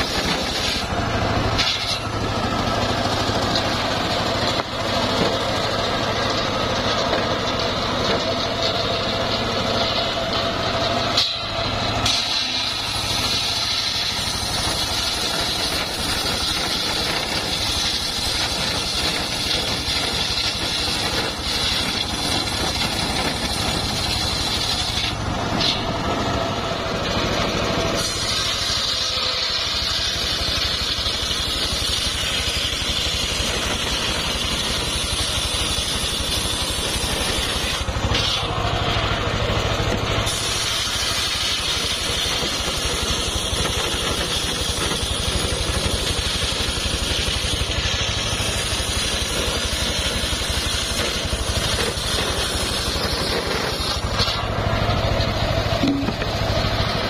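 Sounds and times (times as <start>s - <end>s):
circular saw sawing timber: 0.0s - 57.0s.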